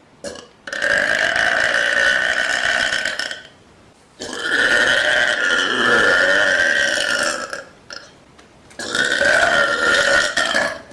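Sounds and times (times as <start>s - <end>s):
woman burping loudly: 0.2s - 3.5s, 4.2s - 8.1s, 8.8s - 10.9s.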